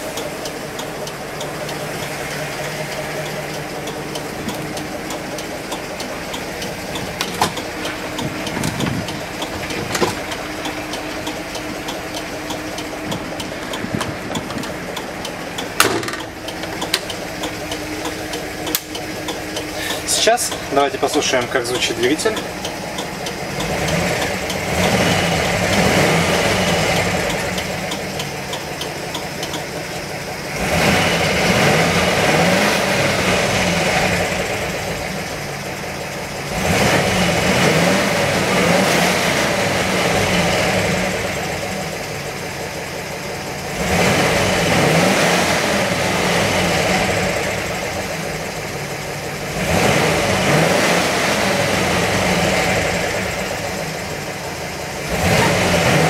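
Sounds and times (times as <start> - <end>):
bus engine idling and revving: 0.0 - 56.0.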